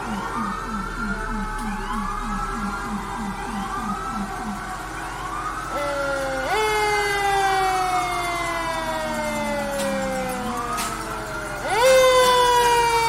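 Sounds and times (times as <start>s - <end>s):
fire truck sirens wailing: 0.0s - 13.0s.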